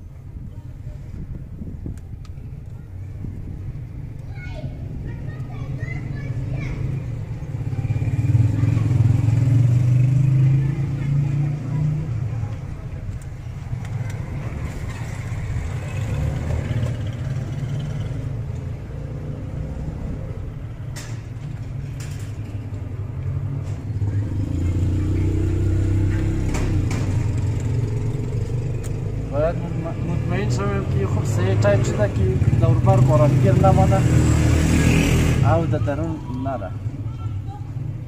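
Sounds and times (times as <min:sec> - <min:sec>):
engine rumbling: 0:00.0 - 0:38.0.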